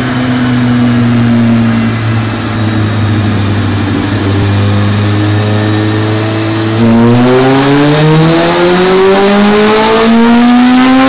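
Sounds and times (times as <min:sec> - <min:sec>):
motorcycle engine running on a dyno: 0:00.0 - 0:11.0.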